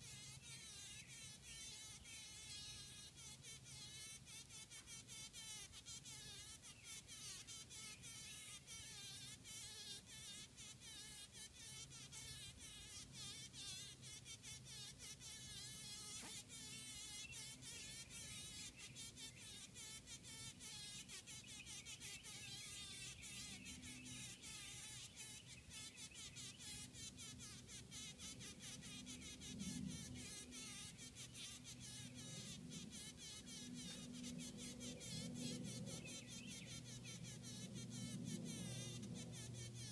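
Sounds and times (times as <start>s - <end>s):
bee buzzing faintly: 0.0s - 39.9s.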